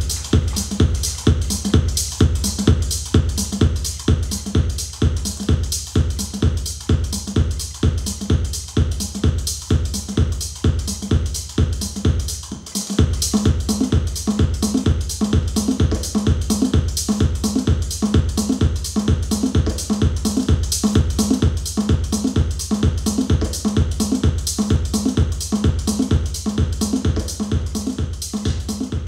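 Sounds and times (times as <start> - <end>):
music with deep bass beat: 0.0 - 29.0.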